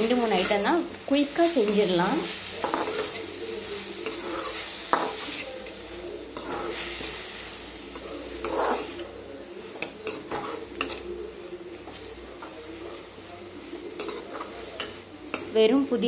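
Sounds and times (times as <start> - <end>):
spatula scraping metal pan: 0.0 - 15.6
leaves sizzling in oil: 0.0 - 16.0.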